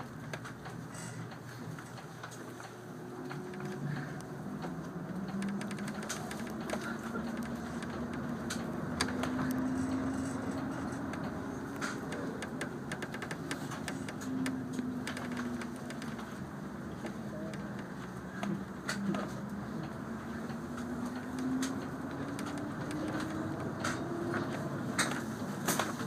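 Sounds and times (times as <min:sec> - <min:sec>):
bus body rattles and clicks: 0:00.0 - 0:26.0
bus engine drone: 0:00.0 - 0:26.0.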